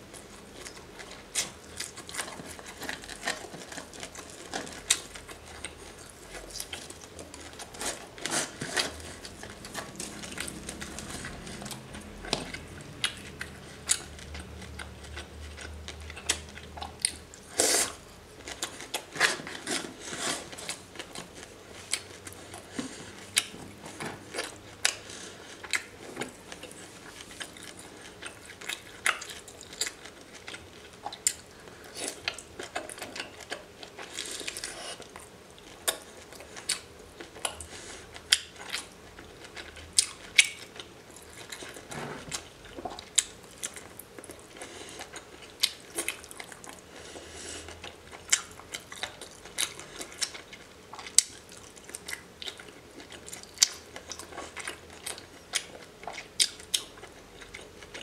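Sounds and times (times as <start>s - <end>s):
chewing and biting seafood: 0.1s - 58.0s.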